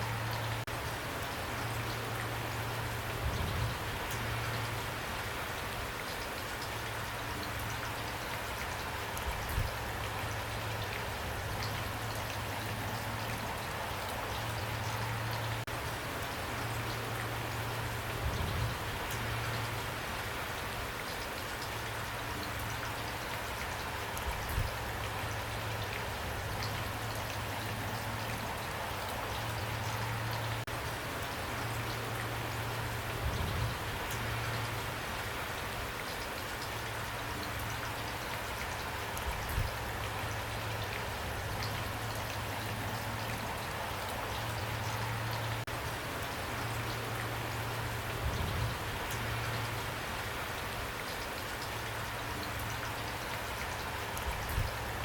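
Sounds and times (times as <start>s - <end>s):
rain drops ticking on surface: 0.0s - 55.0s.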